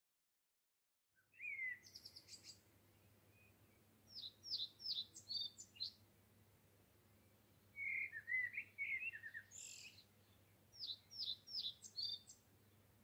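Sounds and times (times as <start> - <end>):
birdsong: 1.2 - 6.1, 7.1 - 13.0.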